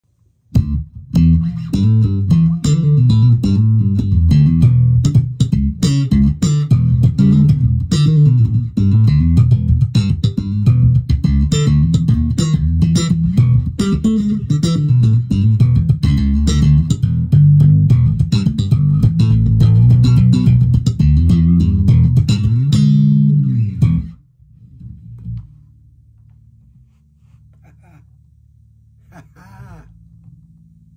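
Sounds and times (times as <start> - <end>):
electric bass plucked notes: 0.5 - 27.0.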